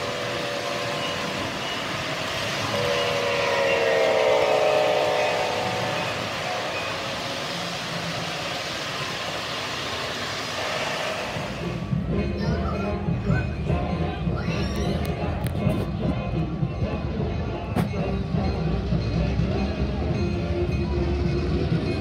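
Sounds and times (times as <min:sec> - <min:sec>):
model train rolling rumble: 0:00.0 - 0:22.0.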